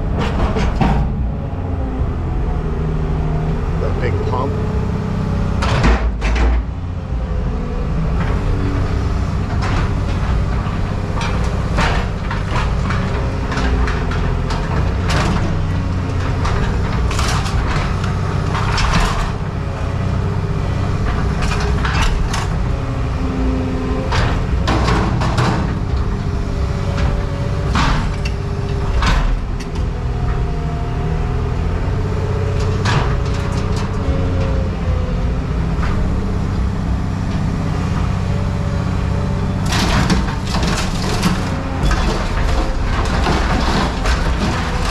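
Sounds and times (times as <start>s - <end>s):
scrap metal clanking and banging: 0.0s - 1.4s, 8.1s - 44.9s
heavy machinery engine running: 0.0s - 44.9s.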